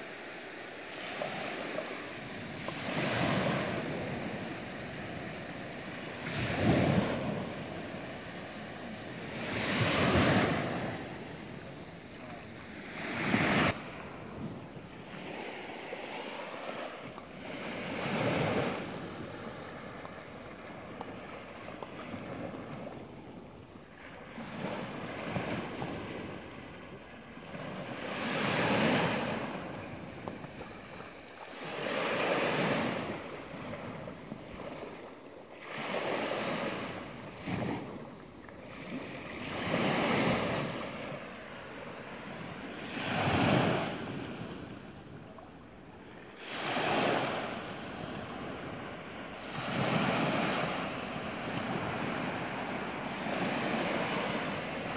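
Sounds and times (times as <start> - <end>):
small waves washing on sandy shore: 0.0 - 54.9.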